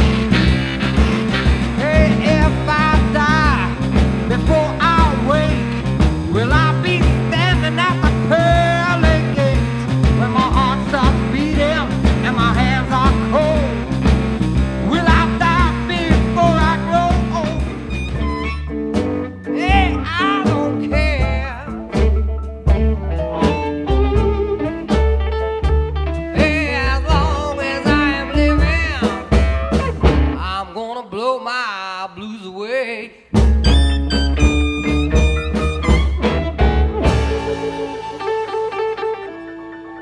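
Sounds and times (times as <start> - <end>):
lead guitar bending notes: 0.0 - 30.4, 33.4 - 40.0
blues-rock band playing: 0.0 - 30.7, 33.3 - 40.0.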